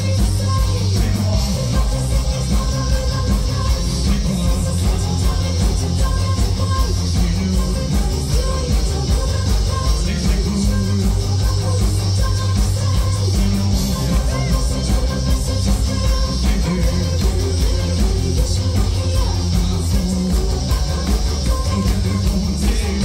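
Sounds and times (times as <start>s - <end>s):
drums keeping a steady beat: 0.0s - 23.0s
electric guitar: 0.0s - 23.0s
heavy bass: 0.0s - 23.0s.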